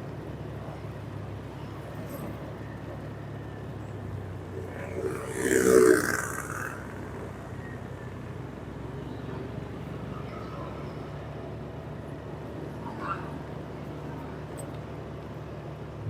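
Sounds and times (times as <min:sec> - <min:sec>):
passing traffic: 0:00.0 - 0:16.0
vehicle engine humming: 0:00.0 - 0:16.0.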